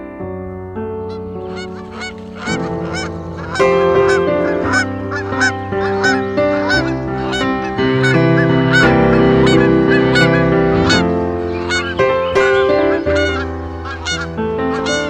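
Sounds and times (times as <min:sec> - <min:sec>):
music with held chords: 0:00.0 - 0:15.0
geese honking: 0:01.1 - 0:15.0.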